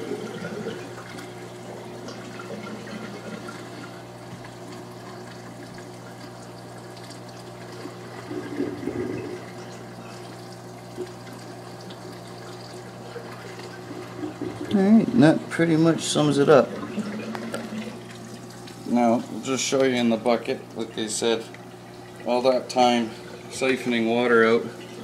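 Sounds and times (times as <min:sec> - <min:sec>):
water running and gurgling: 0:00.0 - 0:25.0.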